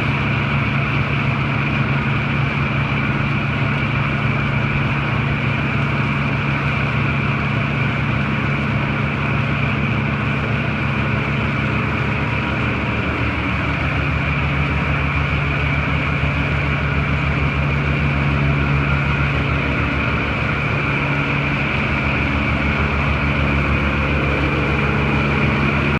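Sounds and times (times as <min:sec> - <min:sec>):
large engine running steadily: 0:00.0 - 0:25.9.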